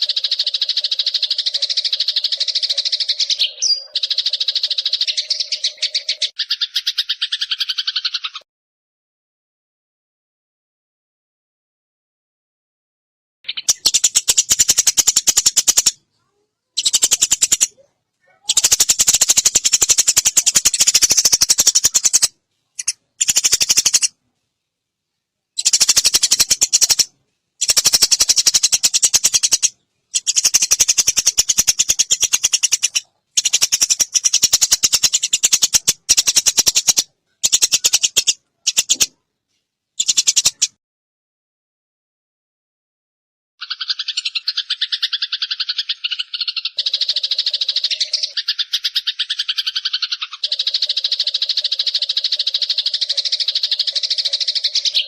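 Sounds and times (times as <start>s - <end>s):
sparrows chirping: 0.0s - 8.4s, 13.5s - 24.2s, 25.6s - 39.2s, 40.0s - 40.8s, 43.6s - 55.0s.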